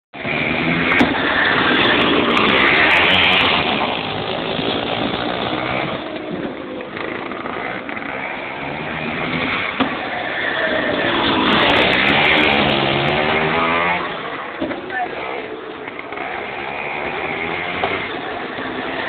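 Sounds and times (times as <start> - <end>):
two-stroke kart engine running: 0.2 - 19.0.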